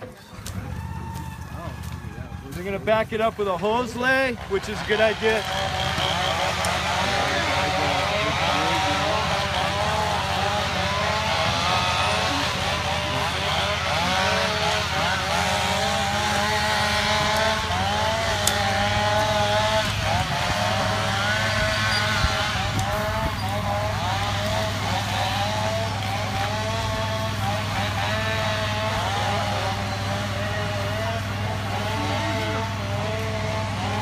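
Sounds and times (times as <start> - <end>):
low engine hum: 0.0 - 34.0
small engine revving: 0.0 - 34.0.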